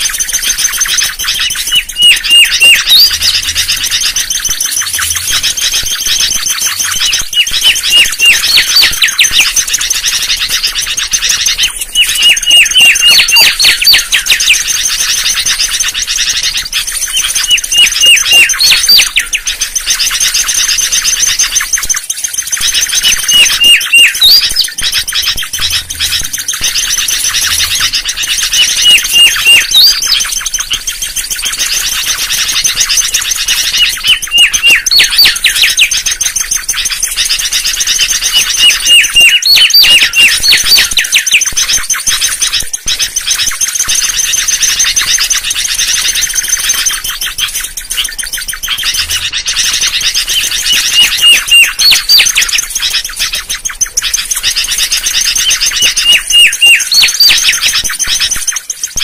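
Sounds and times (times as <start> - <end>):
bird whistling song: 0.0 - 59.0.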